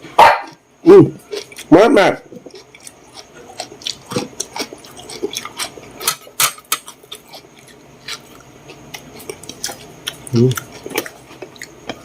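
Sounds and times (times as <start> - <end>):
chewing: 1.2 - 1.7, 2.3 - 12.0.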